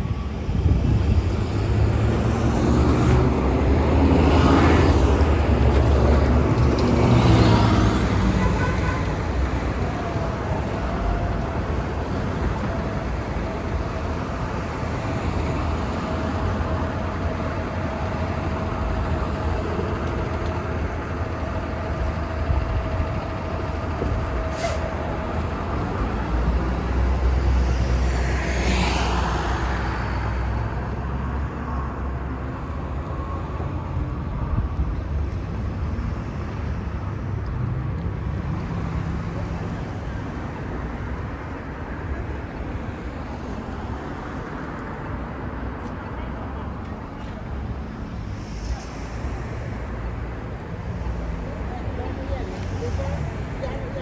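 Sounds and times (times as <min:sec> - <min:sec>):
heavy vehicle passing close: 0:00.0 - 0:44.4
buses and cars passing: 0:00.0 - 0:54.0.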